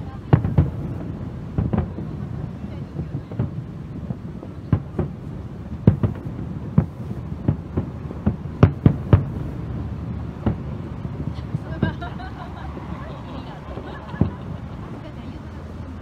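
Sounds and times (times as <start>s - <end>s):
fireworks bursting with sharp bangs: 0.0s - 16.0s
low rumble: 0.0s - 16.0s.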